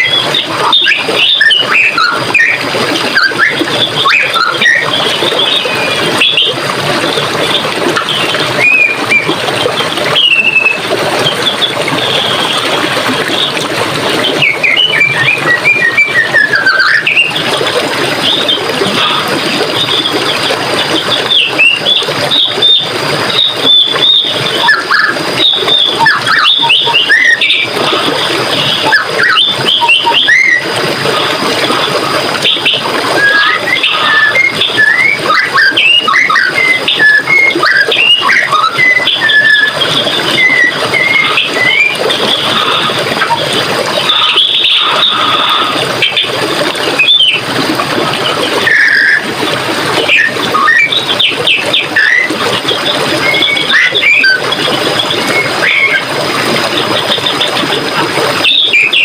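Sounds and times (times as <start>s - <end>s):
birds singing: 0.0s - 49.2s, 49.8s - 59.0s
forest stream running: 0.0s - 59.0s.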